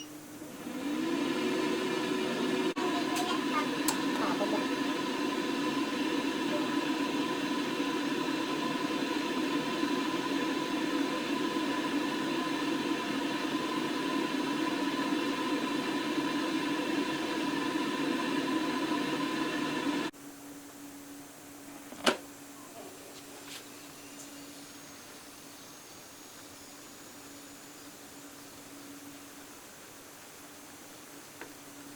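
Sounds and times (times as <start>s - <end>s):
air fryer fan whirring: 0.0s - 20.2s, 21.0s - 29.5s.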